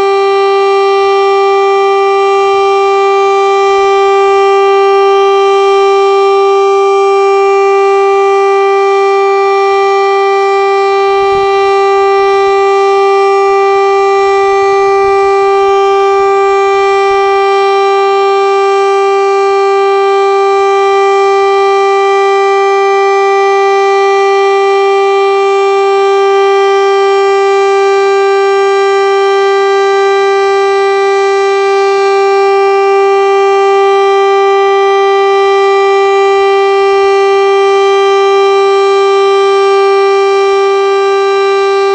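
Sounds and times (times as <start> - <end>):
siren steady tone: 0.0 - 41.9.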